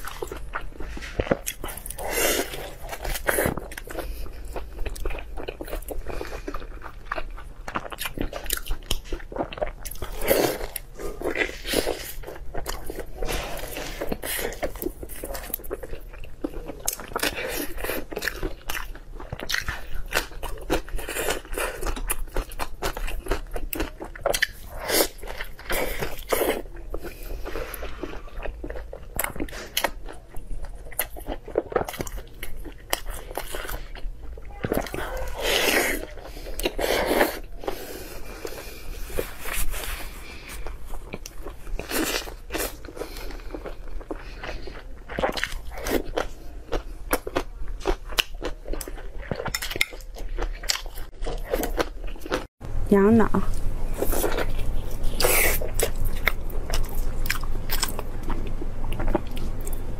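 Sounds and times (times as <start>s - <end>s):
chewing and biting: 0.0s - 52.5s, 53.5s - 59.9s.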